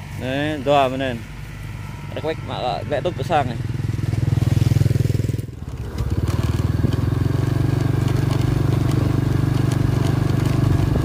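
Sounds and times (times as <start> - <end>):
small motorbike engine running: 0.0 - 11.0.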